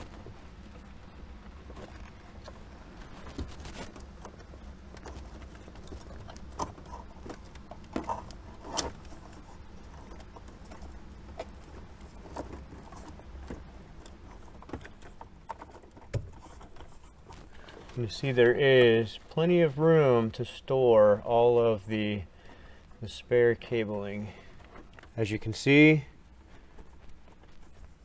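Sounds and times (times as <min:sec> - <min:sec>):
low steady hum: 0:00.0 - 0:28.0
wiring rustling: 0:00.0 - 0:28.0.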